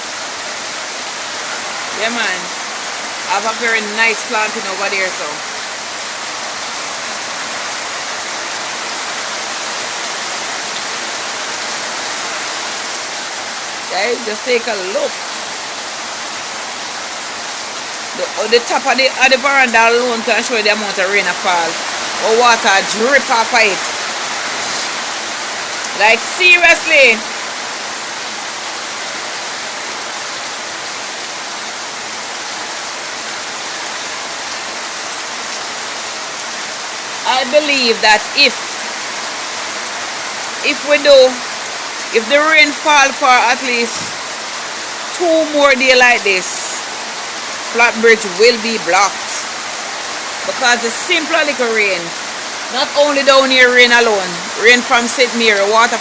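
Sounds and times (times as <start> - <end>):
heavy rain on ground and roof: 0.0 - 56.0.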